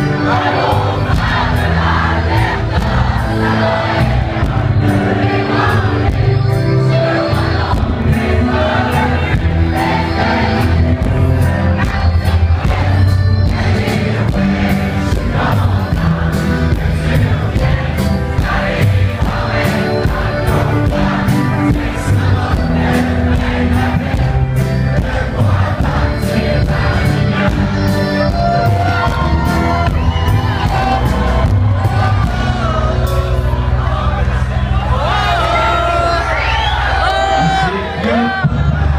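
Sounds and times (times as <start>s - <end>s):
accordion: 0.0s - 38.5s
audience singing along: 0.0s - 38.9s.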